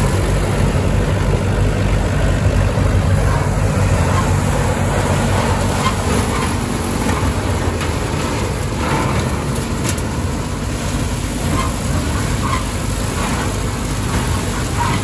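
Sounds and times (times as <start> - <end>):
forage harvester mechanical noise: 0.0 - 15.0
tractor engine under load: 0.0 - 15.0.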